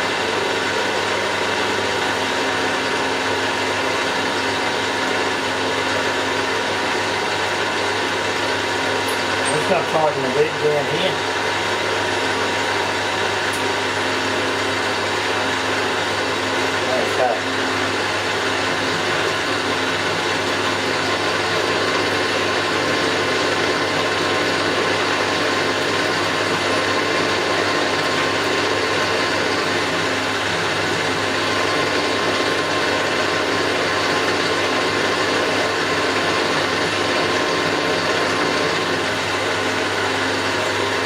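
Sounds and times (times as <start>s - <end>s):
milling machine humming: 0.0s - 41.0s.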